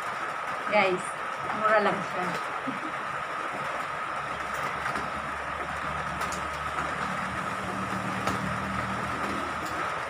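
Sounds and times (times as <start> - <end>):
low engine-like hum: 0.8 - 10.0.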